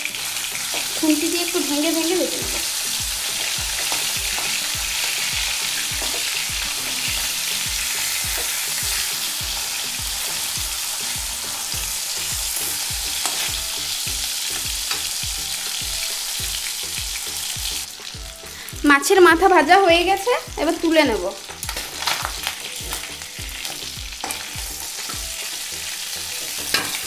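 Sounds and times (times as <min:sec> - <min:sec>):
fish frying in oil: 0:00.0 - 0:27.0.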